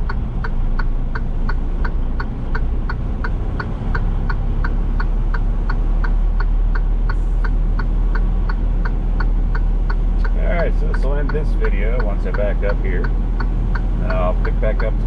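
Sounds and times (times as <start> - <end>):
diesel engine rumble: 0.0 - 15.0
truck indicator flasher ticking: 0.0 - 15.0.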